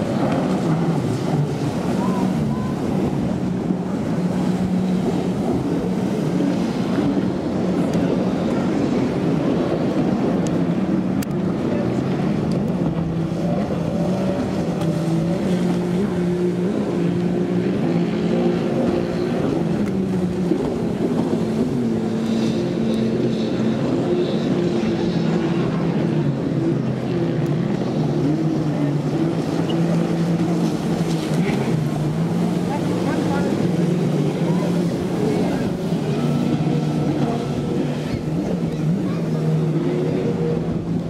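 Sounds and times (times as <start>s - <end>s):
jet ski engines revving: 0.0s - 41.0s.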